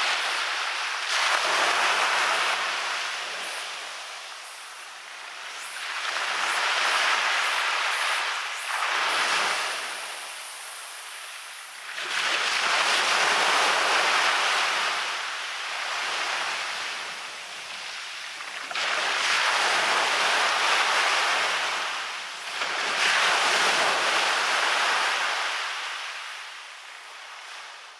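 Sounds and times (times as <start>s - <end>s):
waves breaking on a beach: 0.0s - 27.9s.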